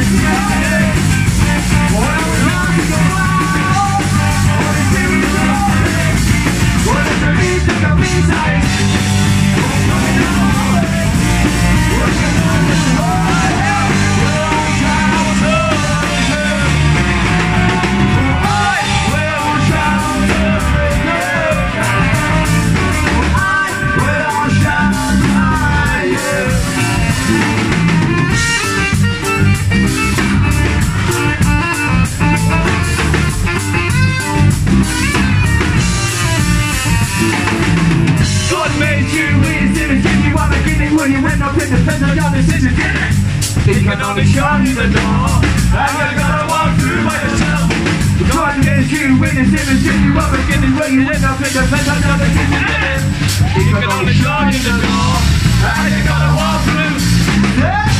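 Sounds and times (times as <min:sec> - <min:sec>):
person singing: 0:00.0 - 0:28.9, 0:38.4 - 0:57.9
drum kit: 0:00.0 - 0:57.9
ska-punk band playing live: 0:00.0 - 0:57.9.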